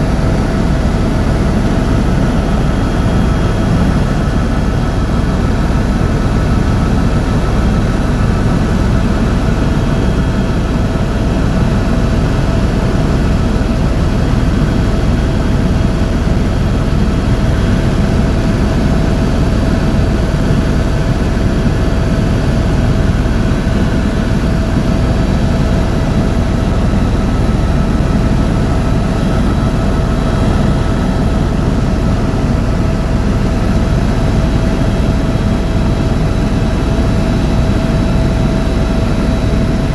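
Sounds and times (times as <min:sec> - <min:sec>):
constant whine: 0:00.0 - 0:39.9
helicopter turbine and rotor noise: 0:00.0 - 0:39.9.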